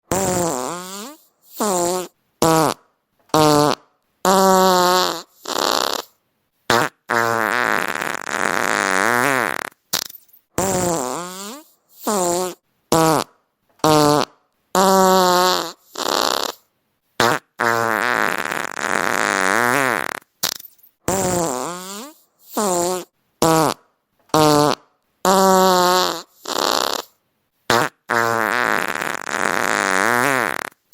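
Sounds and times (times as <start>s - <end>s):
fart sound effects: 0.0s - 30.9s.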